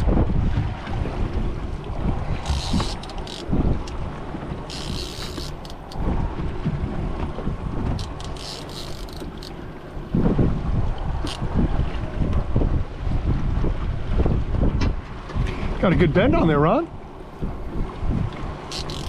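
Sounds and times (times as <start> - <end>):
boat and water rumble: 0.0 - 19.0
wind buffeting microphone: 0.0 - 19.0.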